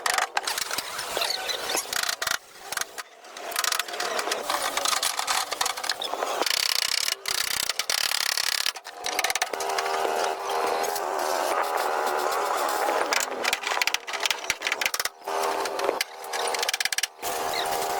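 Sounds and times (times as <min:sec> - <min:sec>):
mechanical clicking and ratcheting: 0:00.0 - 0:10.1, 0:13.0 - 0:17.9.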